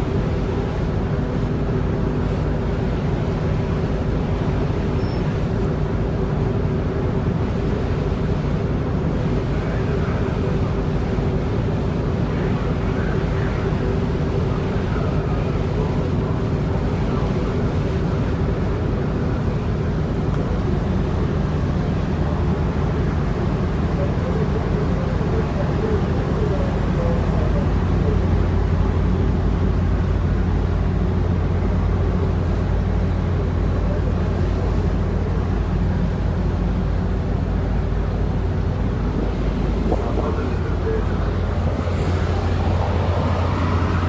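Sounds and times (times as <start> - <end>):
engine rumble: 0.0 - 44.0.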